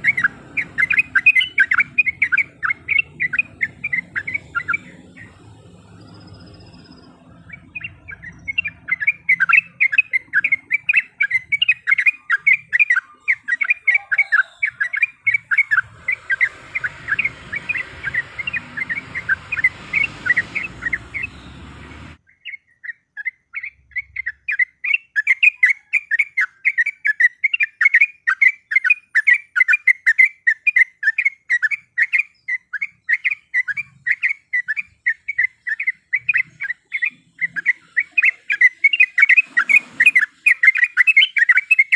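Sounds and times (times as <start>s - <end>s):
bird singing chattering notes: 0.0s - 41.9s.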